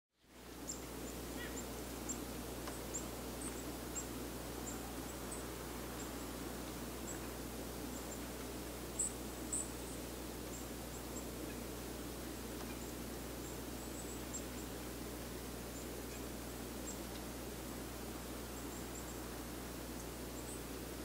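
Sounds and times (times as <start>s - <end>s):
low background rush: 0.3s - 21.0s
small birds chipping: 0.5s - 21.0s.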